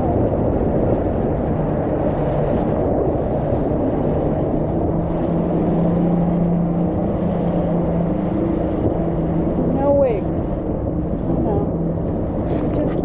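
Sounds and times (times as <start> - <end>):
low motor drone: 0.0 - 13.0
rumbling background noise: 0.0 - 13.0.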